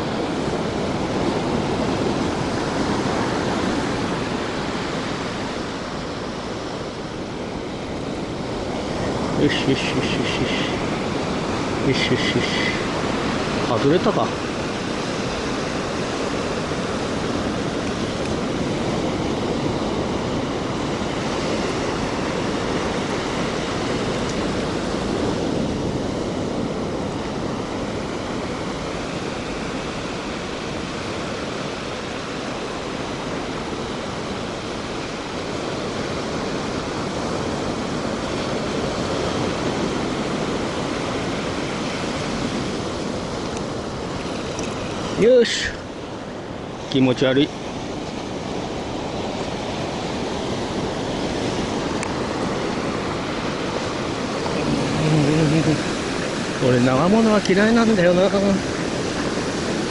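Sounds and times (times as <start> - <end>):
surf breaking on beach: 0.0 - 59.9.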